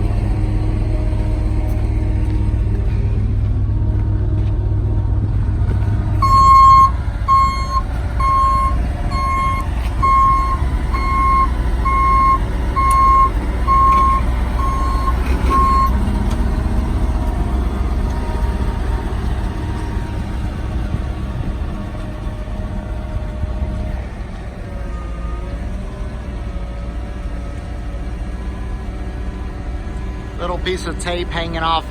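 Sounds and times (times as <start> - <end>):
diesel engine running: 0.0 - 31.9
truck warning alarm beeping: 0.0 - 31.9.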